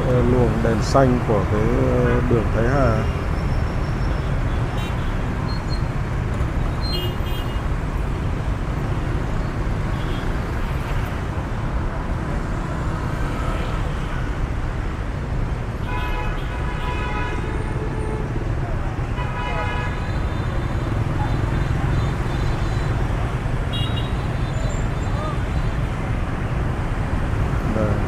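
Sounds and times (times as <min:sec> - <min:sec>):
traffic noise: 0:00.0 - 0:28.0.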